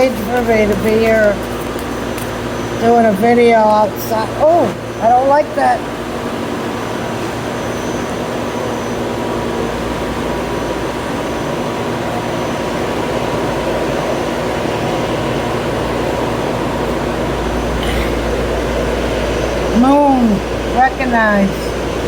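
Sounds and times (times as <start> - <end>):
faint jet whine: 0.0 - 22.0
jet engines rushing: 0.0 - 22.0.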